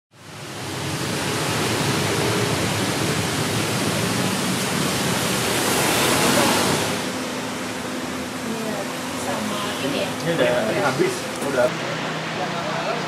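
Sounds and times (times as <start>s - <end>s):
street traffic rush: 0.1s - 13.0s
car passing close: 0.2s - 13.0s.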